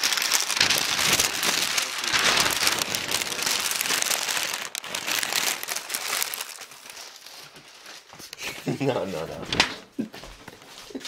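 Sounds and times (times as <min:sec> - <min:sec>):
wrapping paper crinkling: 0:00.0 - 0:09.8.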